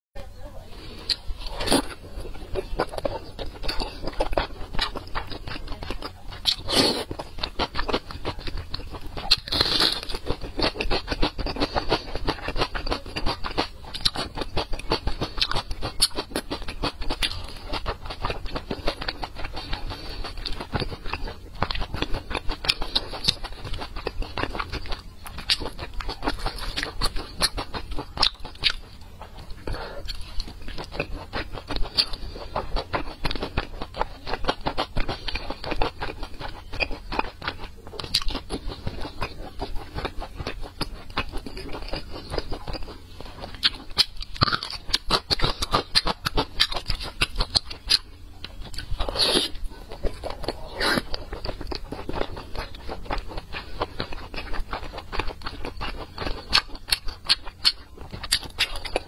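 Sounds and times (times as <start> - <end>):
chewing and biting pork: 0.8 - 59.0.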